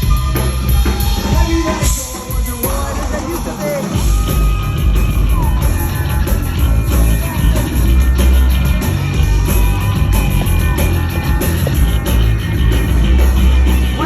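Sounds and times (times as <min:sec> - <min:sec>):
distorted bass: 0:00.0 - 0:03.3, 0:04.0 - 0:14.0
drums: 0:00.0 - 0:14.0
live rock music: 0:00.0 - 0:14.0.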